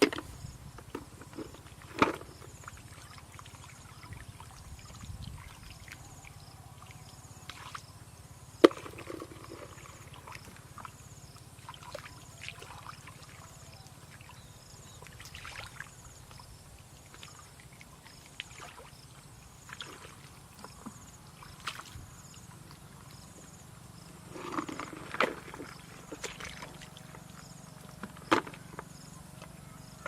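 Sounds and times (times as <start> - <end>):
water trickling and sloshing: 0.0 - 30.0.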